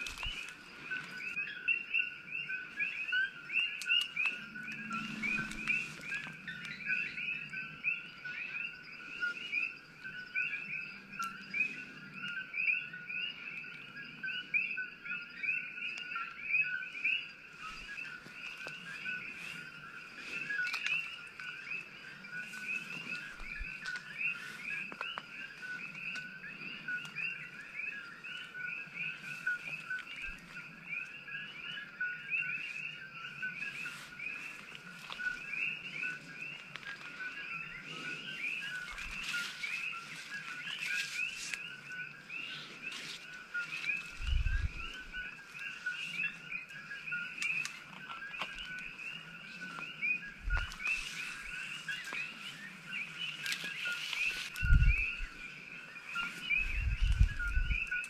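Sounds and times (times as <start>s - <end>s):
frogs calling: 0.0s - 58.0s
leaves and brush rustling: 0.0s - 58.0s.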